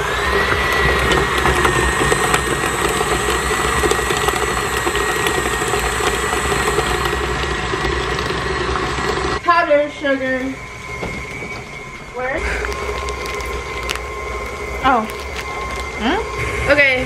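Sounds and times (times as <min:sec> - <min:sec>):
beater creaming butter in bowl: 0:00.0 - 0:09.4, 0:10.8 - 0:16.5
stand mixer motor whining: 0:00.0 - 0:17.0.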